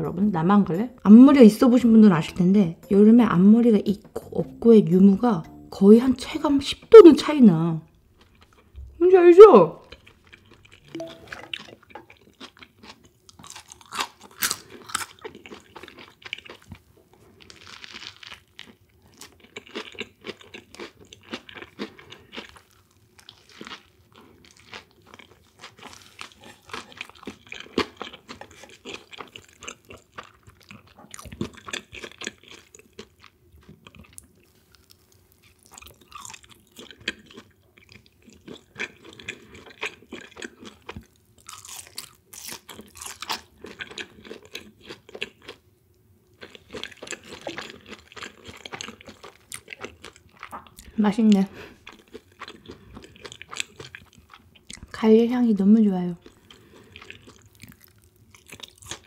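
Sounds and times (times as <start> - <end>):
person chewing crunchy food: 7.9 - 8.9, 9.8 - 45.7, 46.3 - 54.9, 56.2 - 59.0.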